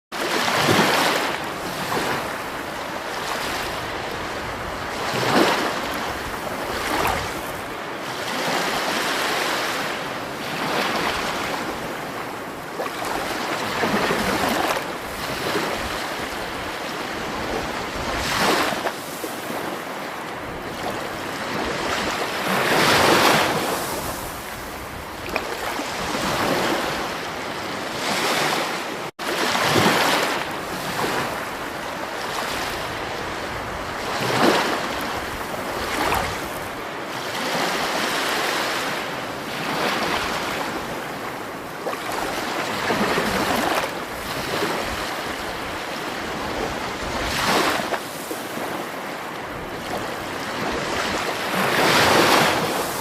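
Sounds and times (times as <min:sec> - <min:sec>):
rushing water: 0:00.2 - 0:53.0.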